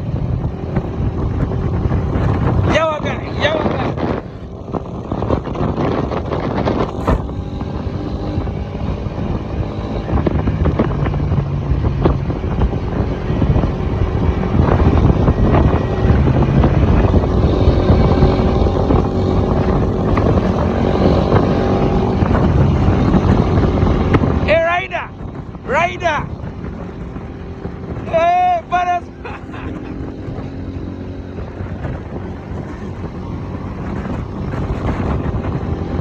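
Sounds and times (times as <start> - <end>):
engine running: 0.0 - 9.4, 12.2 - 24.4, 28.7 - 36.0
wind buffeting microphone: 0.0 - 36.0.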